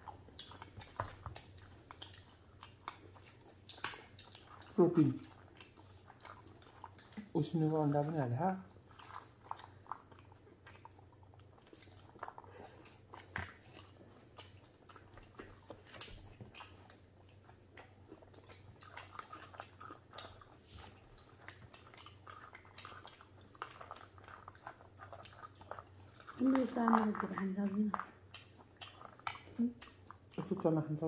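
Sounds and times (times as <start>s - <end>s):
people chewing: 0.0s - 31.0s.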